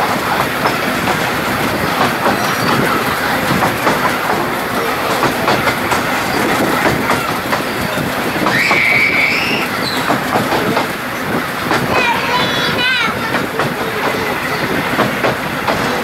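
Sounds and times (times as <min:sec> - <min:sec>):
train wheels clattering on rails: 0:00.0 - 0:16.0.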